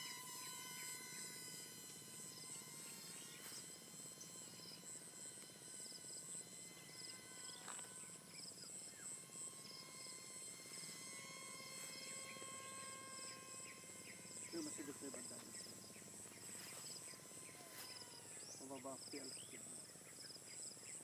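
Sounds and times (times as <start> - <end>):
faint steady whine: 0.0 - 21.0
insects trilling: 0.0 - 21.0.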